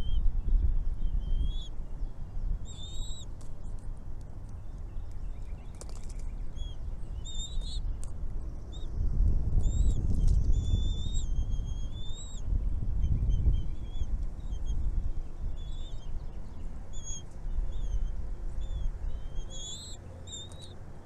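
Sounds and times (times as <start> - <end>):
low rumbling noise: 0.0 - 21.0
small birds calling: 0.0 - 21.0.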